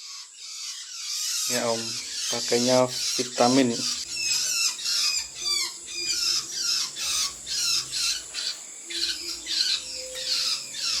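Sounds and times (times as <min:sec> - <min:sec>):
bird calling harsh falling notes: 0:00.8 - 0:11.0.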